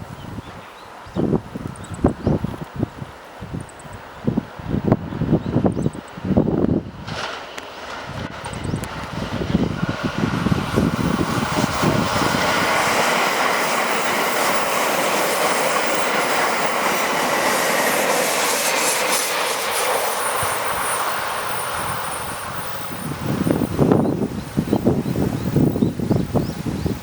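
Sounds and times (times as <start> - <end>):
wind buffeting microphone: 0.0 - 27.0
train rushing past: 3.8 - 27.0.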